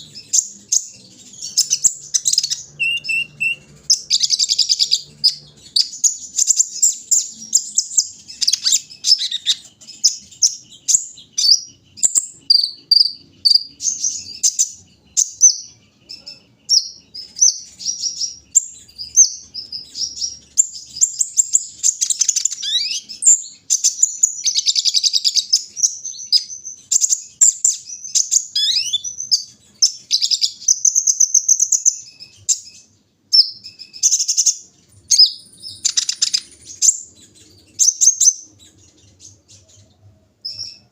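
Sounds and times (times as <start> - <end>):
bird twittering chirps and trills: 0.0 - 40.9.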